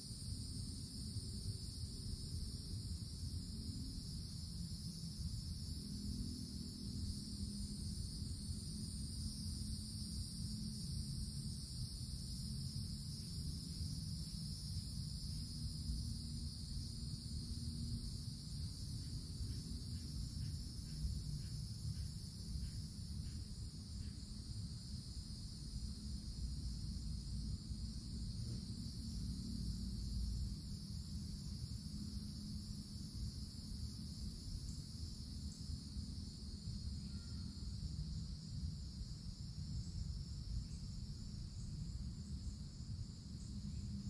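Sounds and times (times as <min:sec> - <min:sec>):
cicadas droning: 0:00.0 - 0:44.0.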